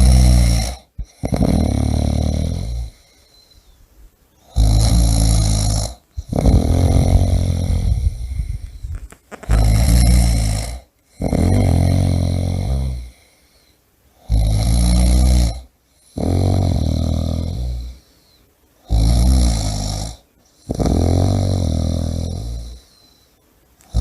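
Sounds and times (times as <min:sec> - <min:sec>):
person snoring loudly: 0:00.0 - 0:03.1, 0:04.4 - 0:08.8, 0:09.4 - 0:13.2, 0:14.2 - 0:18.0, 0:18.8 - 0:22.9.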